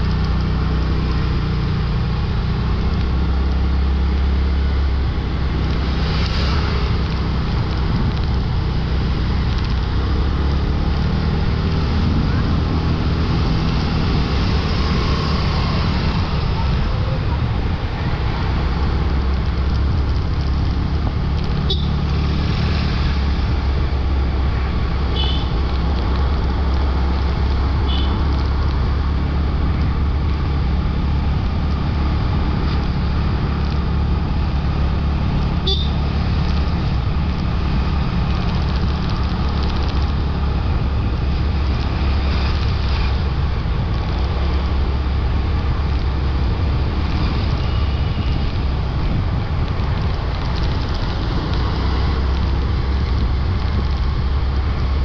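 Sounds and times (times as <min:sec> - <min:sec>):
road and wind noise: 0:00.0 - 0:55.0
motorbike engine running: 0:06.7 - 0:55.0.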